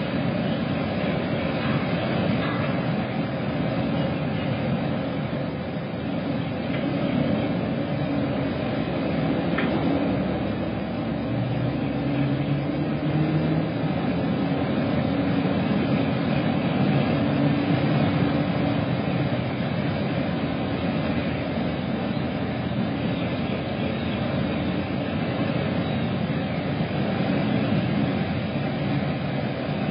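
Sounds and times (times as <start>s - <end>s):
low engine-like rumble: 0.0s - 29.9s.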